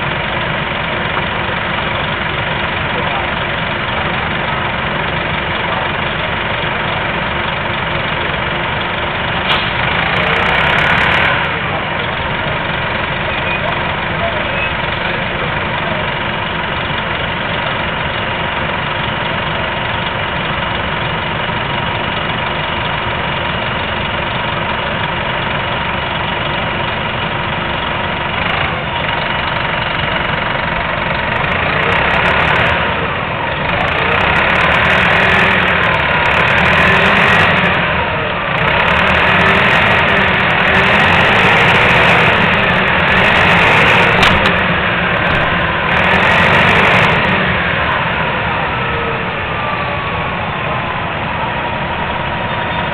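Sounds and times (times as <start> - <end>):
bus diesel engine: 0.0 - 52.9.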